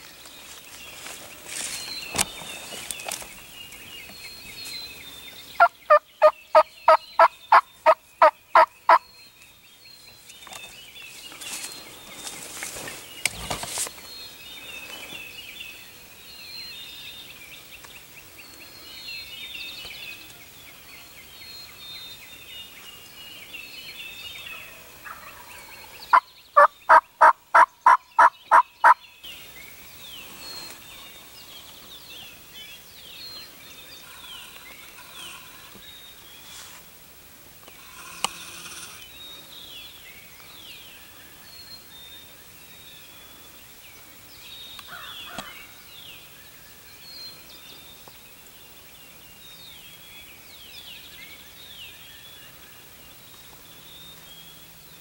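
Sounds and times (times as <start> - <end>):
songbirds chirping faintly: 0.0 - 55.0.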